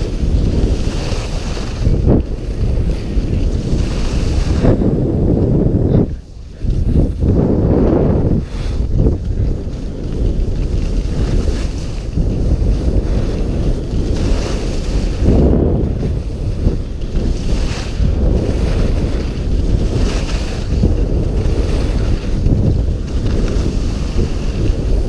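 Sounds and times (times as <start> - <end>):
skis sliding on snow: 0.0 - 25.0
wind buffeting microphone: 0.0 - 25.0.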